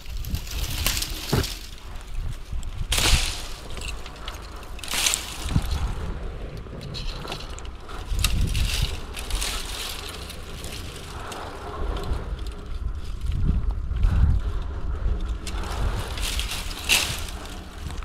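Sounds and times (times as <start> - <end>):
dry leaves and twigs rustling: 0.0 - 18.0
wind rumble on microphone: 0.0 - 18.0.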